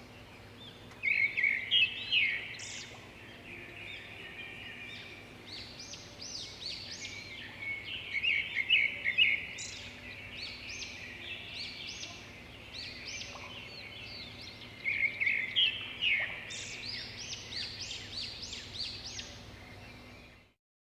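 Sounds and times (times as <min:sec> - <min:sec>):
small birds chirping: 0:00.0 - 0:20.6.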